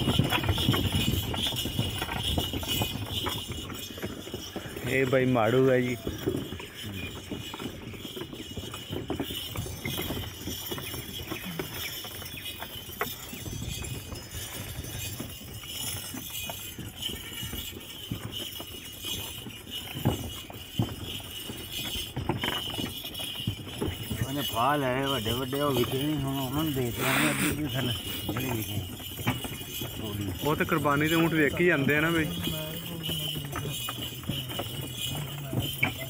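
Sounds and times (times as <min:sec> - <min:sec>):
wooden cart knocking and rattling: 0:00.0 - 0:36.0.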